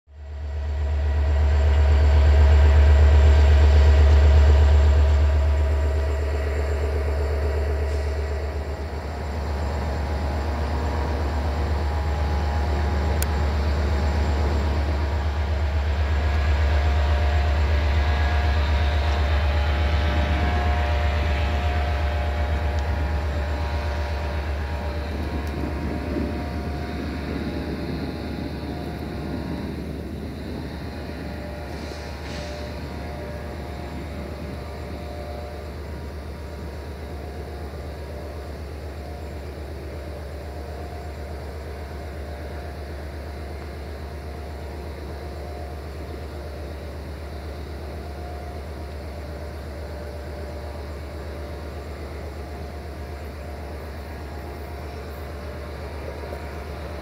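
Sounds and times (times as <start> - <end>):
diesel railcar engine droning: 0.1 - 57.0.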